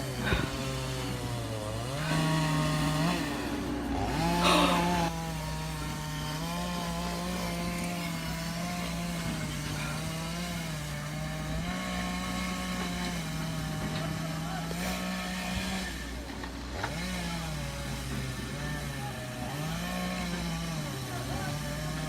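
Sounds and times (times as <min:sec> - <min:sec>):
chainsaw running: 0:00.0 - 0:22.0.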